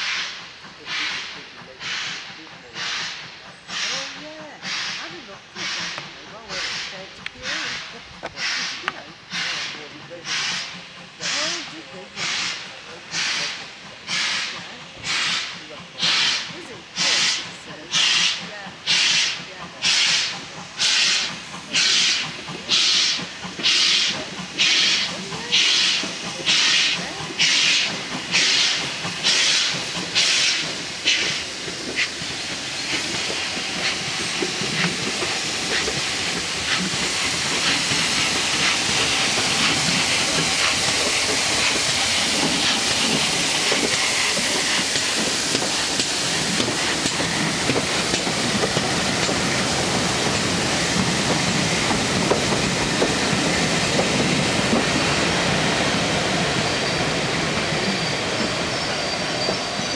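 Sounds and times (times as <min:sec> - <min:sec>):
steam locomotive chuffing: 0:00.0 - 0:59.9
train passing close by: 0:00.0 - 0:59.9.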